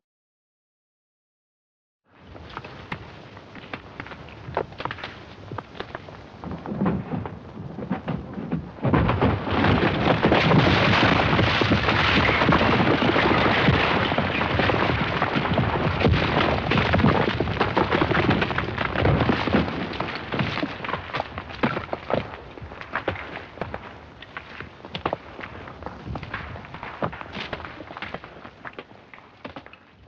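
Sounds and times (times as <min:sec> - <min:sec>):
crash of tumbling debris: 0:02.2 - 0:30.0.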